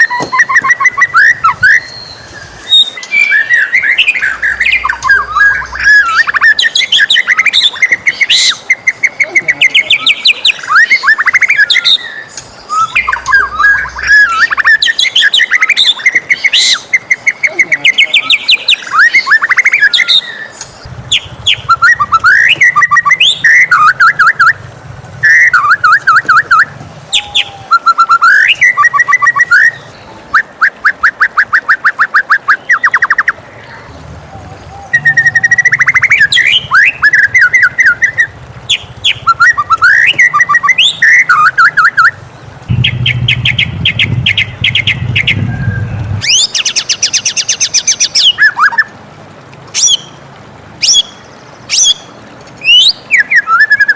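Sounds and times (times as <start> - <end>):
bird singing whistled phrases: 0.0 - 24.6, 25.2 - 33.4, 34.7 - 48.9, 49.8 - 50.1, 50.8 - 53.9.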